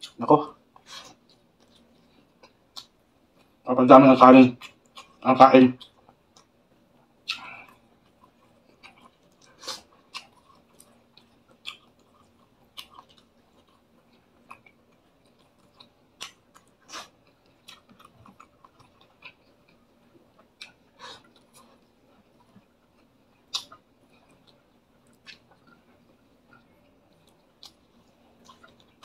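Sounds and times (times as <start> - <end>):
person chewing with mouth smacks: 0.8 - 3.6, 4.6 - 5.2, 7.2 - 29.0.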